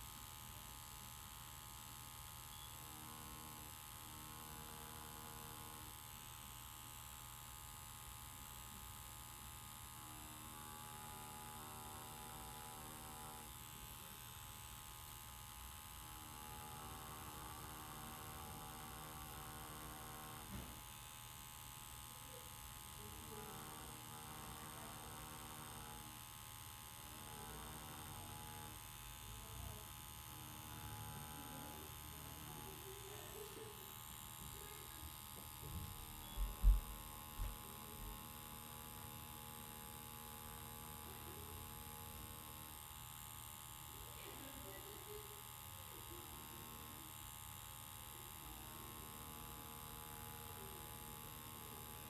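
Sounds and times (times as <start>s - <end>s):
tattoo machine humming: 0.0s - 52.0s.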